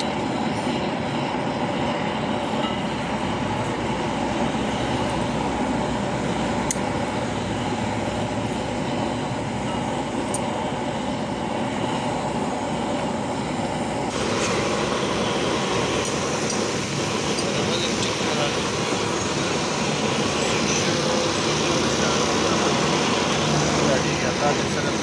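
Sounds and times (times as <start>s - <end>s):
mechanical rumble and hiss: 0.0s - 25.0s.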